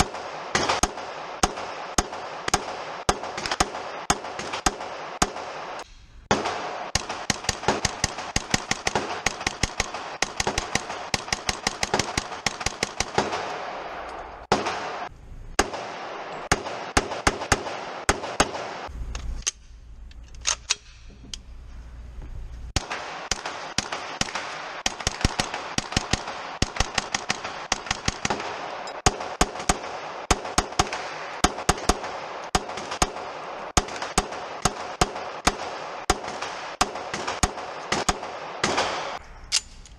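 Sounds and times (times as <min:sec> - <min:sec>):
rapid gunshots: 0:00.0 - 0:18.9, 0:22.8 - 0:39.2.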